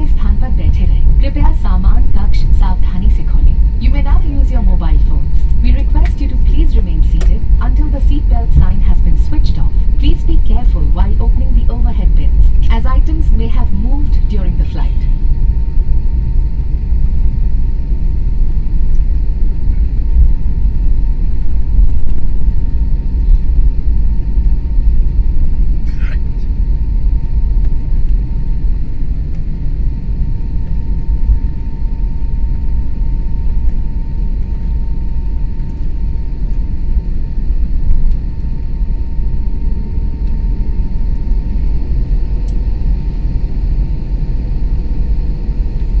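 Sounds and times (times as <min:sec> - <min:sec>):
aircraft cabin low rumble: 0:00.0 - 0:46.0
faint high whine: 0:00.0 - 0:46.0.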